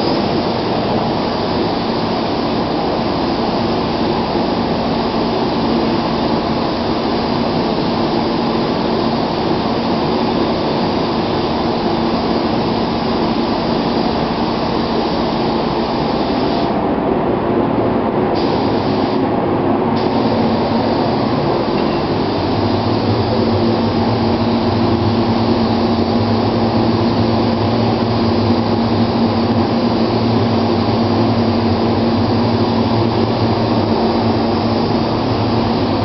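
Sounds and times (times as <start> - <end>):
spray gun hissing: 0.0 - 16.8, 18.4 - 19.3, 20.0 - 36.0
steady hum: 0.0 - 36.0.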